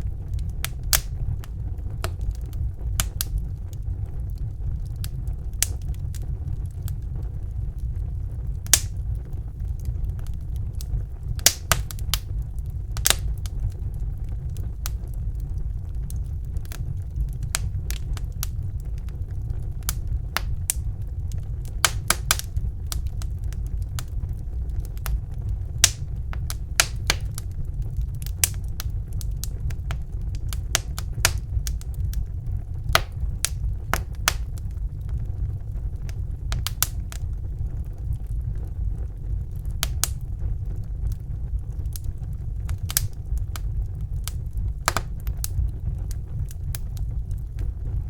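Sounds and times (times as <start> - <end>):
low rumble of flames: 0.0 - 48.0
wood fire popping and snapping: 0.0 - 48.0.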